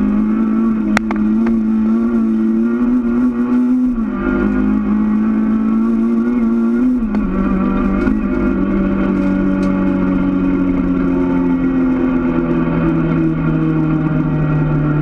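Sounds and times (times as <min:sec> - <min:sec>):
rally car engine from inside cabin: 0:00.0 - 0:15.0.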